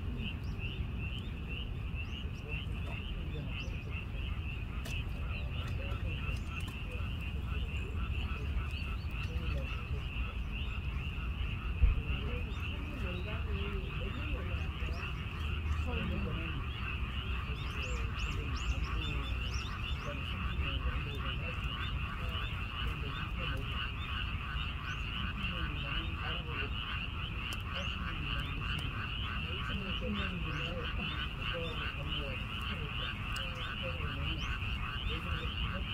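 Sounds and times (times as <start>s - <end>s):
chorus of frogs calling: 0.0s - 35.9s
lower falling frog calls: 0.0s - 35.9s.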